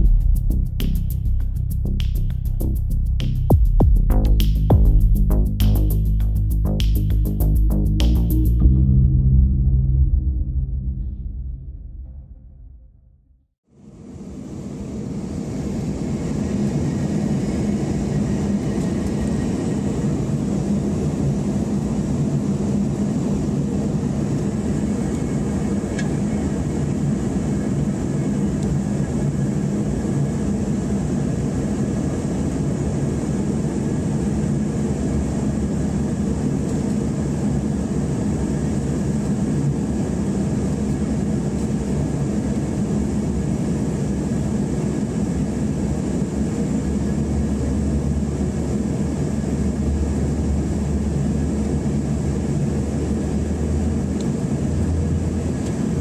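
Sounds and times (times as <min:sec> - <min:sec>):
airliner cabin engine rumble: 0:00.0 - 0:13.1, 0:13.8 - 0:56.0.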